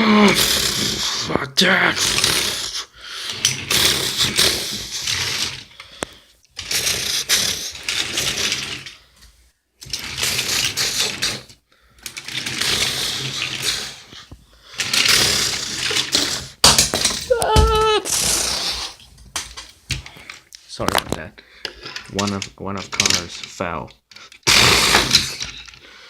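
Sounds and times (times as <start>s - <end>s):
toy cars rattling and clattering: 0.2s - 9.2s, 9.8s - 26.0s.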